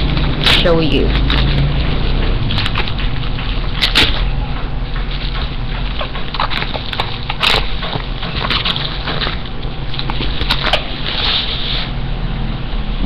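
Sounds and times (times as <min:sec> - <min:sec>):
plastic packaging crinkling: 0:00.0 - 0:11.9
steady low hum: 0:00.0 - 0:13.0.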